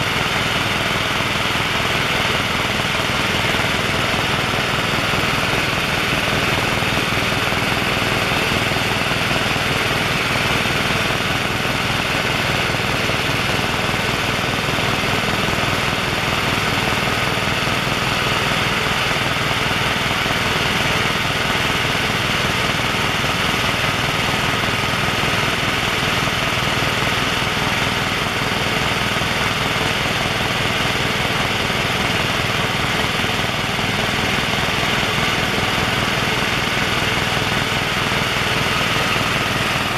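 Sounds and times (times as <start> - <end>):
helicopter engines and rotor din: 0.0 - 39.9.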